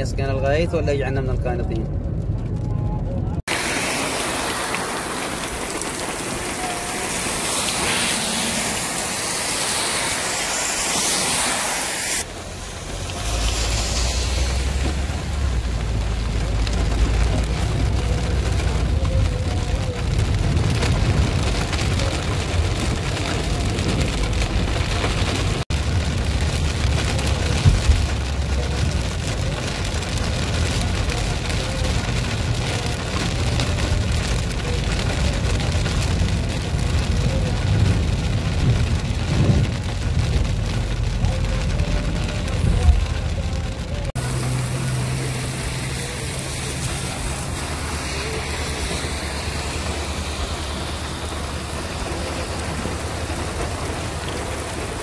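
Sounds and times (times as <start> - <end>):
rain drumming on car: 0.0 - 55.0
road and engine rumble: 0.0 - 55.0.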